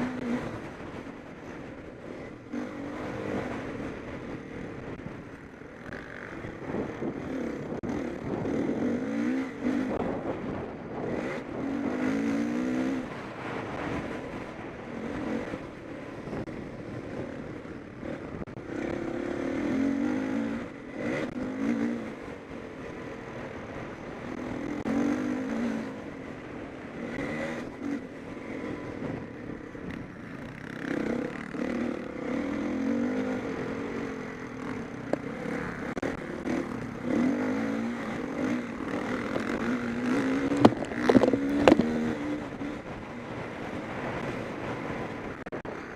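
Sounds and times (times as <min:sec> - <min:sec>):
motocross engines revving: 0:01.9 - 0:22.6, 0:24.0 - 0:45.9.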